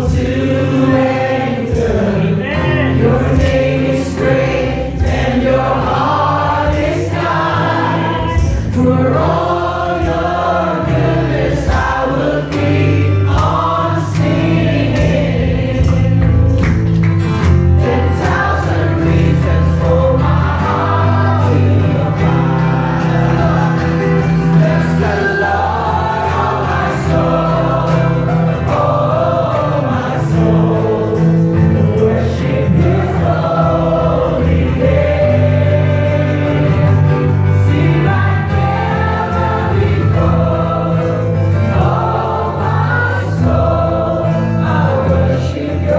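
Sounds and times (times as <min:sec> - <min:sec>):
amplified instruments with heavy bass: 0:00.0 - 0:45.9
congregation singing: 0:00.0 - 0:45.9.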